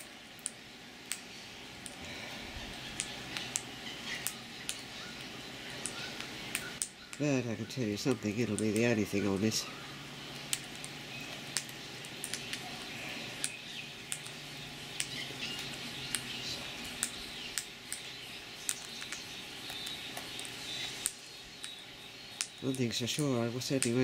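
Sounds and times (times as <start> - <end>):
beaks pecking at food: 0.0 - 24.0
faint bird chirps: 1.2 - 24.0.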